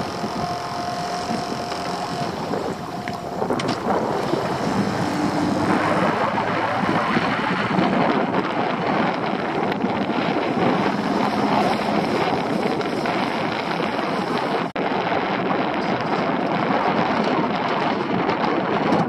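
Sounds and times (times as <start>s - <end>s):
outboard motor running: 0.0s - 19.0s
wind buffeting microphone: 0.0s - 19.0s.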